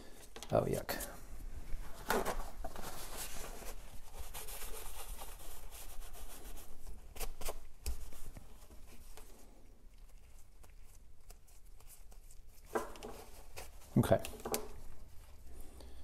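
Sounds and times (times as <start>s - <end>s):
knocks and rustles of handling: 0.1s - 15.7s.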